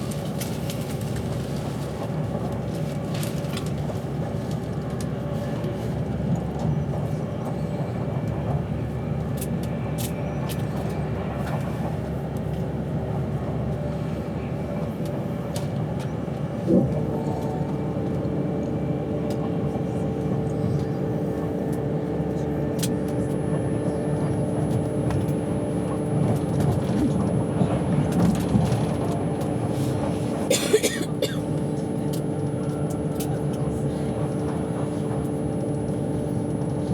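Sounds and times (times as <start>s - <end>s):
train running gear rumble: 0.0s - 36.9s.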